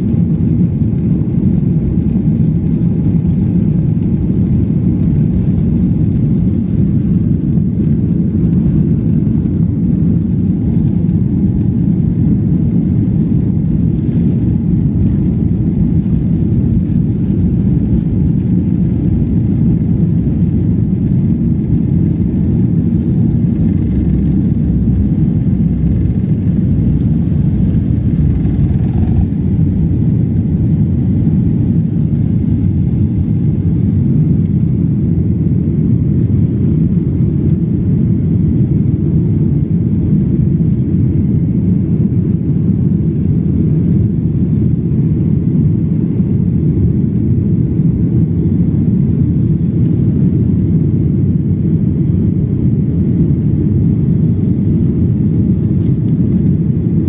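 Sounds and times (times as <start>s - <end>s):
jet engines at takeoff in cabin: 0.0s - 57.0s.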